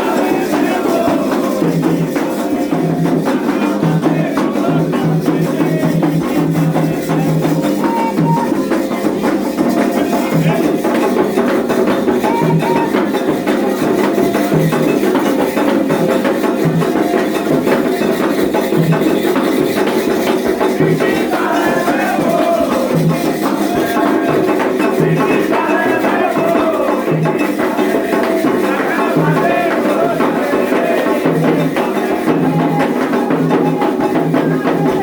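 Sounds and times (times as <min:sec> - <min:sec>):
voices singing: 0:00.0 - 0:35.0
wood block rhythm: 0:00.0 - 0:35.0.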